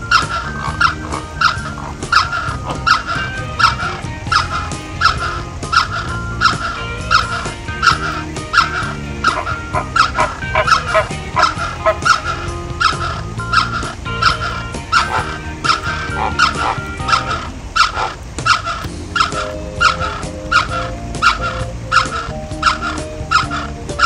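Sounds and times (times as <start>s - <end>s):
flamingos honking: 0.0s - 24.0s
low steady drone: 0.0s - 24.0s.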